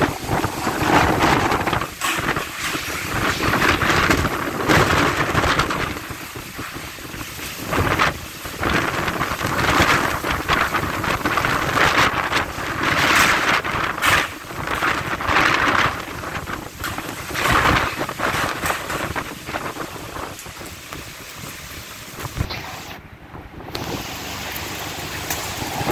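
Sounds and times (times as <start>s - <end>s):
driving rain: 0.0s - 25.9s
strong gusting wind: 0.0s - 25.9s
wind buffeting microphone: 0.0s - 25.9s.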